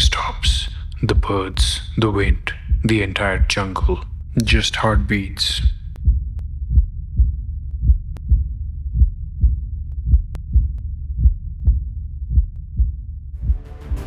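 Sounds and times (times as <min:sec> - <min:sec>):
heartbeat thumps: 0:00.0 - 0:14.0.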